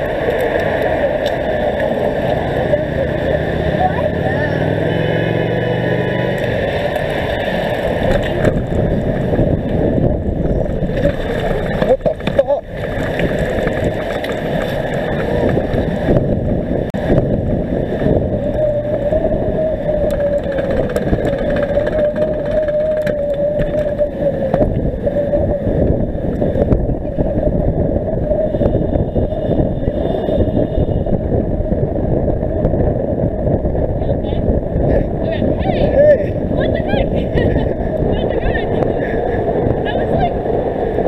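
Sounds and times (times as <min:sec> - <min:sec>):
wind and road noise while cycling: 0:00.0 - 0:41.0.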